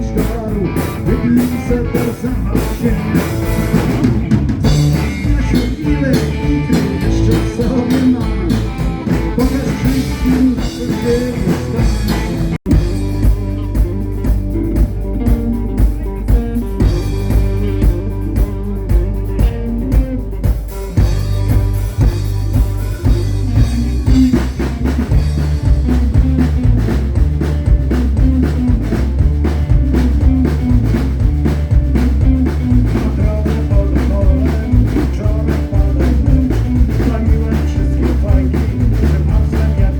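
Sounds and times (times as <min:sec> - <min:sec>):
drum kit beat with rimshots: 0:00.0 - 0:39.9
rock band playing live: 0:00.0 - 0:39.9.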